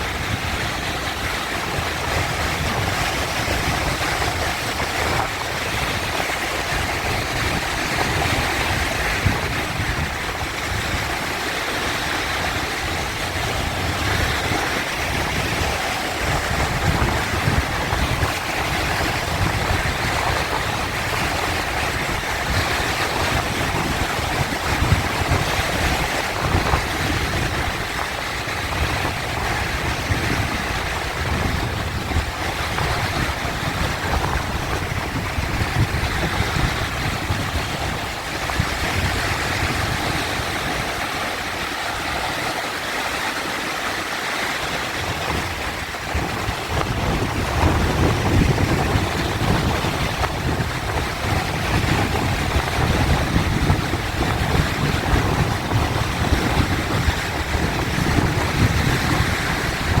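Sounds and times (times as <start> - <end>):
sea waves breaking: 0.0 - 60.0.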